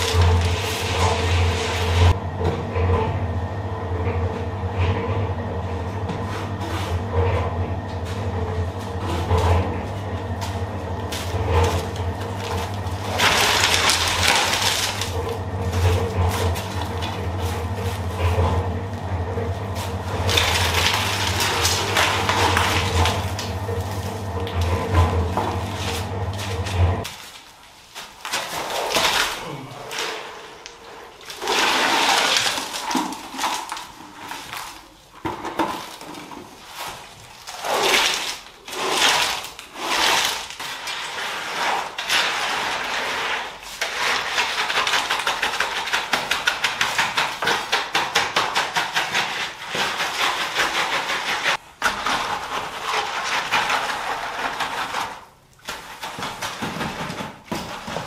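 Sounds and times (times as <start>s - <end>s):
tools scraping wet concrete: 0.0s - 2.2s, 6.1s - 58.0s.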